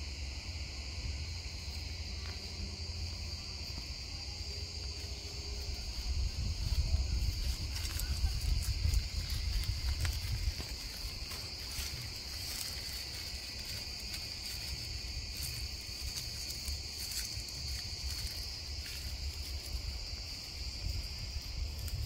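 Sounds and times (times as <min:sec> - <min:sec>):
insects trilling: 0:00.0 - 0:22.0
low microphone rumble: 0:00.0 - 0:22.0.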